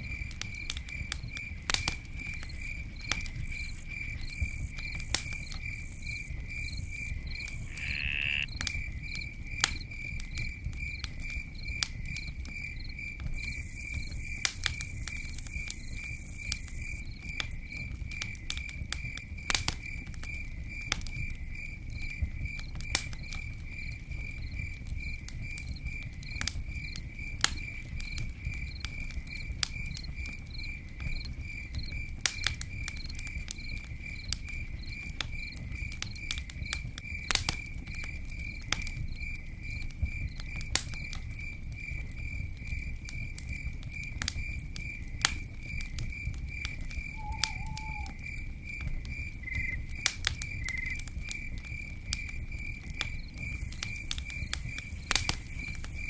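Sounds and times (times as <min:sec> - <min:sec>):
campfire crackling and popping: 0:00.0 - 0:56.0
cricket chirping: 0:00.0 - 0:56.0.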